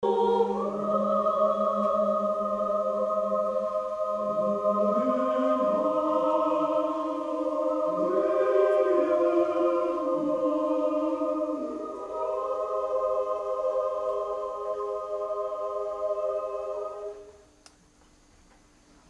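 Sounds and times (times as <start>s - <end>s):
choir singing sustained chords: 0.0s - 17.6s.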